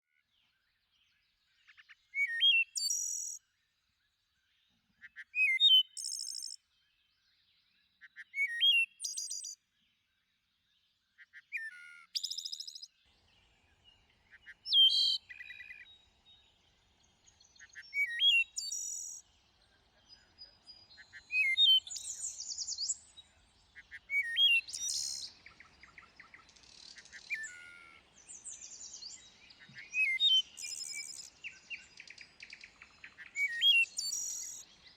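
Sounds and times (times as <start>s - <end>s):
other bird song: 0.1s - 34.9s.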